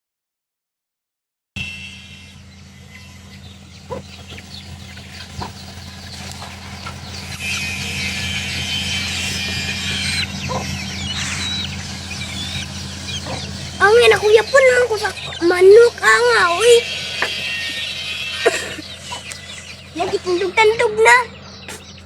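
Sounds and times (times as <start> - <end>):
steady low hum: 1.6 - 22.0
chicken clucking: 2.1 - 22.0.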